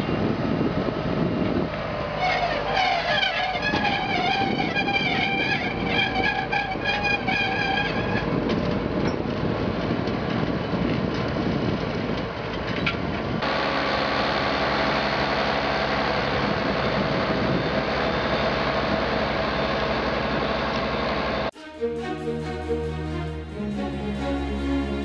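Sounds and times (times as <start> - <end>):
tractor diesel engine under load: 0.0 - 21.6.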